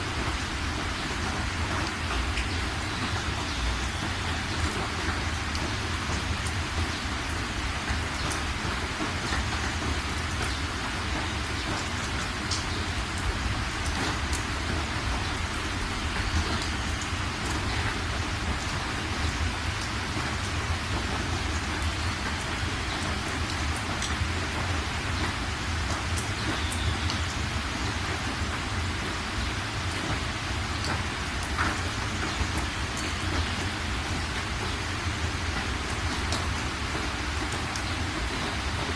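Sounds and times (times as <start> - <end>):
raindrops ticking: 0.0 - 38.9
steady rain: 0.0 - 38.9.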